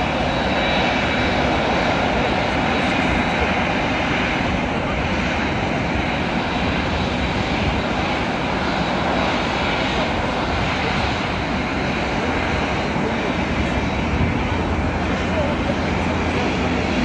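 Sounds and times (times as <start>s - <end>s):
jet engines at low power: 0.0s - 17.0s.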